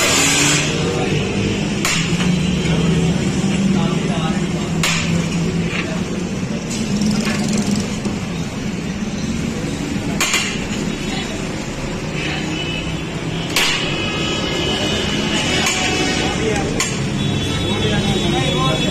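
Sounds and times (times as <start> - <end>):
steady background noise: 0.0 - 18.9.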